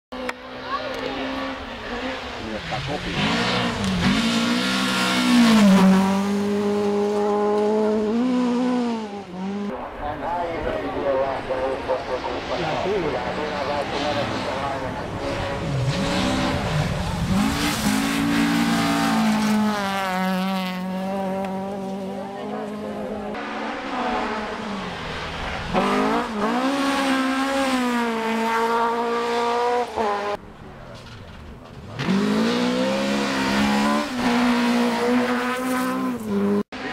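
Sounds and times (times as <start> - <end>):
car engine at high revs: 0.2 - 9.8, 11.6 - 30.4, 31.3 - 36.9.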